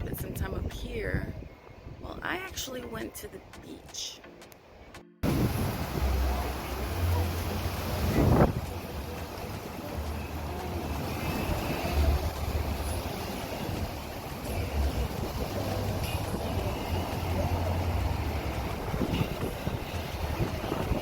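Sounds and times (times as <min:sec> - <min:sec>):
wind buffeting microphone: 0:00.0 - 0:04.0, 0:05.2 - 0:21.0
steady rushing outdoor noise: 0:00.0 - 0:21.0.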